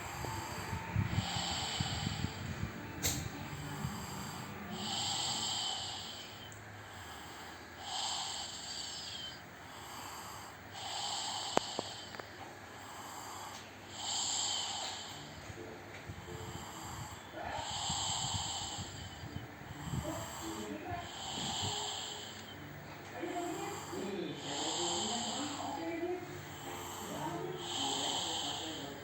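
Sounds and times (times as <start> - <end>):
person snoring: 0.0 - 12.2, 12.8 - 15.5, 16.2 - 29.0.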